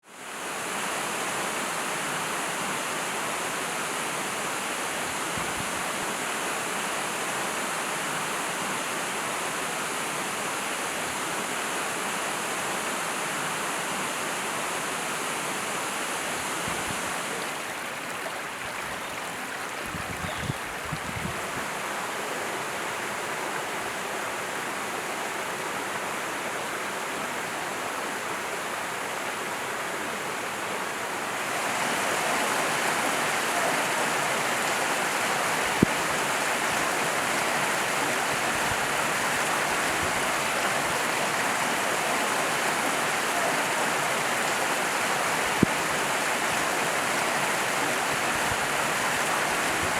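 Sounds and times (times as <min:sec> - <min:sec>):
stream rushing: 0:00.1 - 0:49.9.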